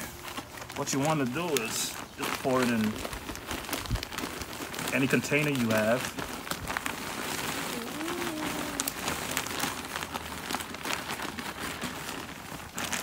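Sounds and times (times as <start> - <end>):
soil pouring from a bag: 0.0 - 13.0.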